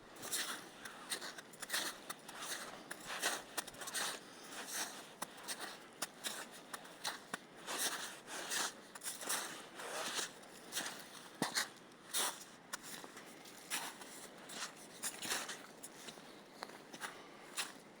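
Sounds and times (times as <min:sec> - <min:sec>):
footsteps crunching on forest floor: 0:00.2 - 0:17.8.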